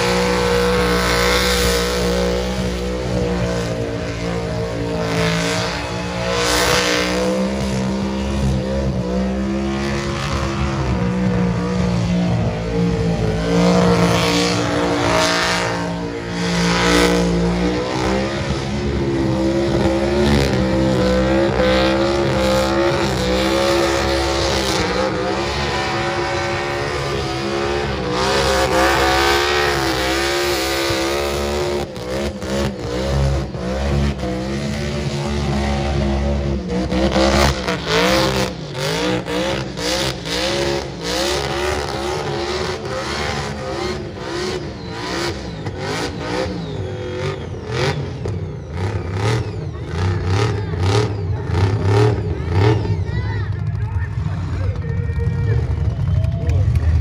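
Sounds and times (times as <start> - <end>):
supercharged engine revving: 0.0 - 56.1.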